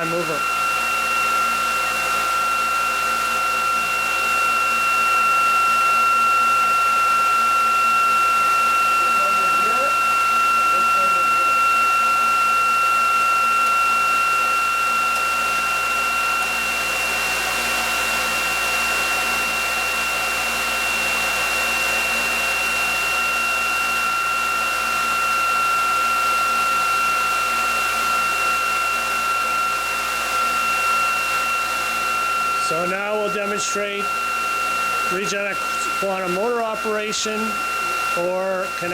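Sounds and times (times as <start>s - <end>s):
generator high whine: 0.0s - 38.9s.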